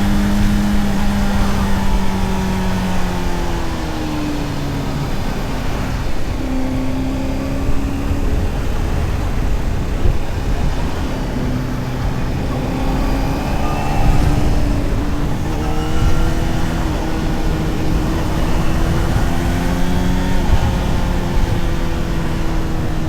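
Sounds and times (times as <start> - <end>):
heavy wind noise: 0.0 - 23.0
motorcycle engine and exhaust: 0.0 - 23.0.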